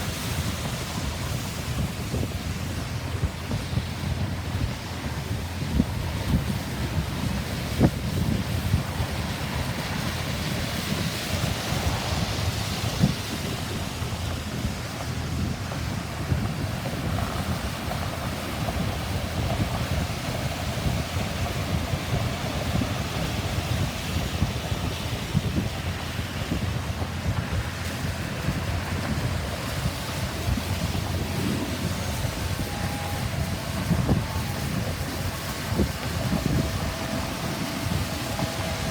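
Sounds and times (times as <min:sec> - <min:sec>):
steady rushing noise: 0:00.0 - 0:38.9
wind buffeting microphone: 0:00.0 - 0:38.9.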